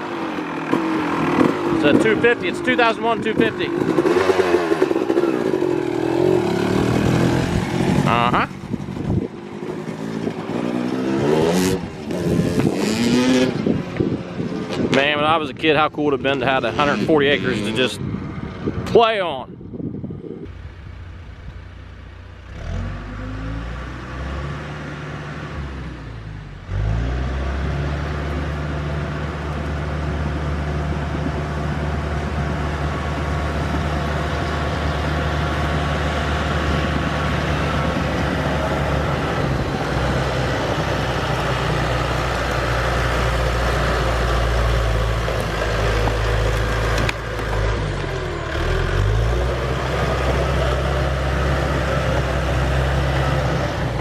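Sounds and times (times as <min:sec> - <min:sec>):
engine running: 0:00.0 - 0:18.8, 0:20.4 - 0:54.0.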